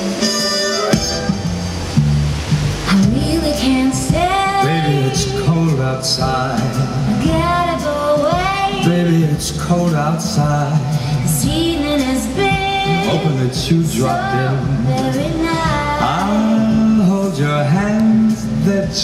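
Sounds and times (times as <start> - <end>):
woman singing with instrumental backing: 2.8 - 19.0.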